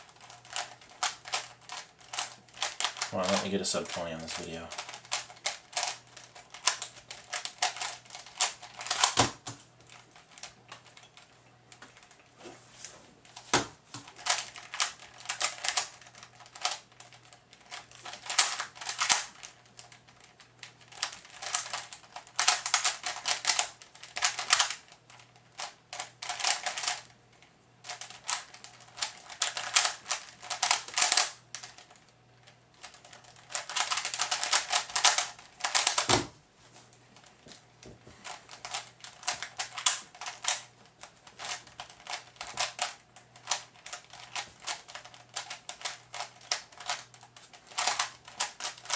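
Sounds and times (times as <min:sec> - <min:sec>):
plastic puzzle cube clicking: 0:00.1 - 0:03.5, 0:04.3 - 0:11.0, 0:14.0 - 0:27.1, 0:27.9 - 0:32.0, 0:32.8 - 0:36.1, 0:38.3 - 0:48.9.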